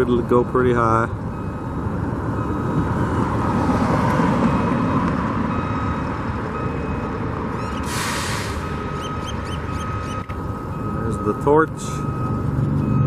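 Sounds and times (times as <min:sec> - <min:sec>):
traffic and heavy vehicles rumbling: 0:00.0 - 0:13.0.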